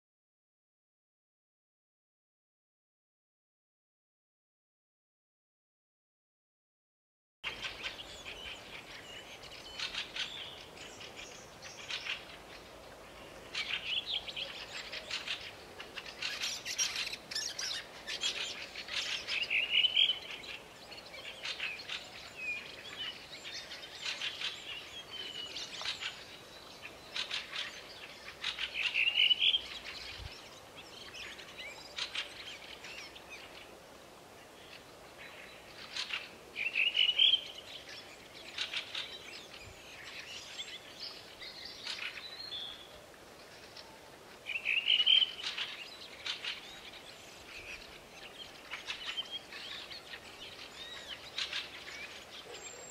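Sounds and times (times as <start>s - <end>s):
songbirds singing fast trills: 7.4s - 33.8s, 34.4s - 52.9s.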